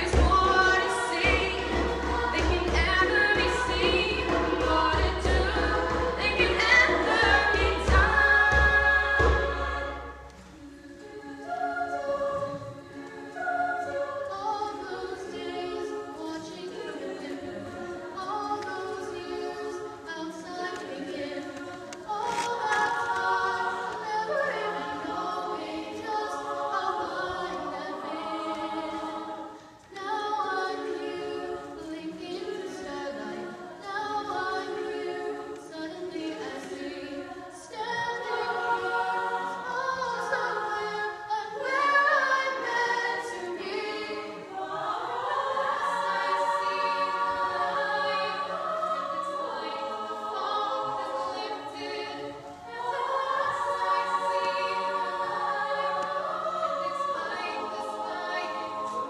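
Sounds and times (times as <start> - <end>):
female a cappella group singing: 0.0 - 59.0.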